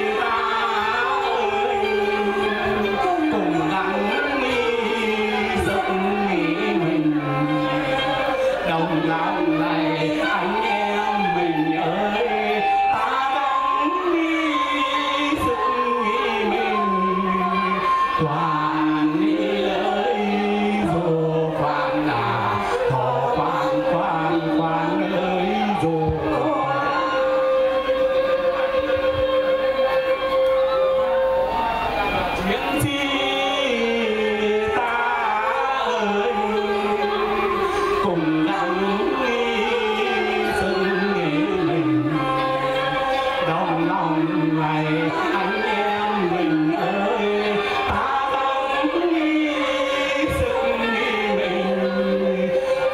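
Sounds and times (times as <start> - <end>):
bamboo flute: 0.0 - 52.9
live music accompaniment: 0.0 - 52.9
man singing through microphone: 0.0 - 52.9.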